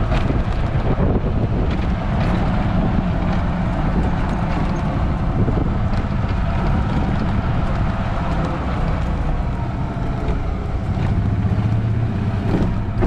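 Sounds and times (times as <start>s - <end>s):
golf cart engine running: 0.0s - 13.0s
wind buffeting microphone: 0.0s - 13.0s.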